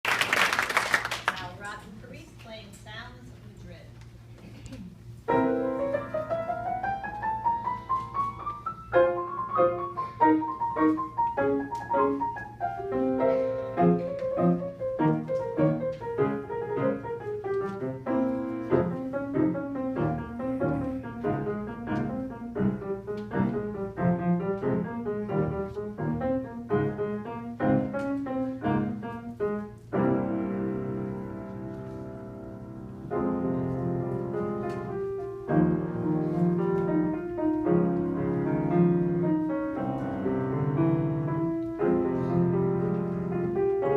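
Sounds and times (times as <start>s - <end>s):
piano music: 5.2s - 43.9s.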